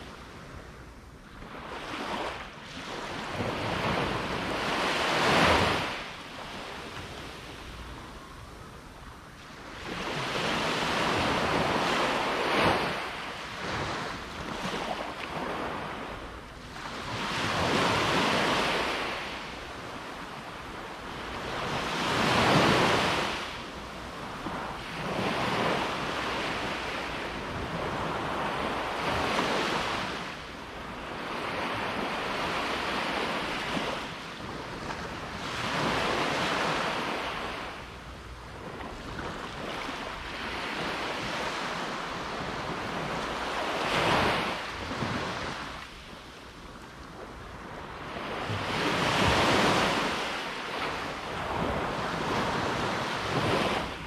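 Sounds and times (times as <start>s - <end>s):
waves breaking on beach: 1.4s - 54.0s.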